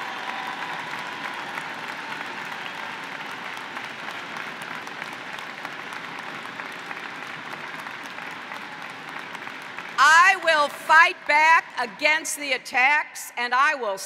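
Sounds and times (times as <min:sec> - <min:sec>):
large crowd applauding: 0:00.0 - 0:12.0.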